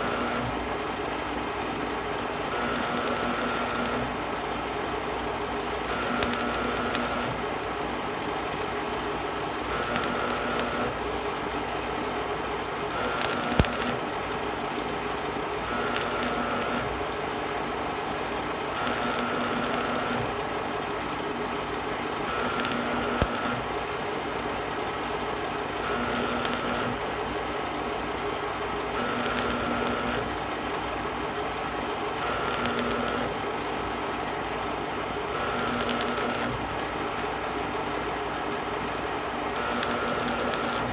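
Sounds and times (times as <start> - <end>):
welding arc crackling: 0.0 - 0.9, 2.1 - 7.6, 8.6 - 31.1, 32.0 - 33.4, 35.4 - 36.9, 39.5 - 40.9.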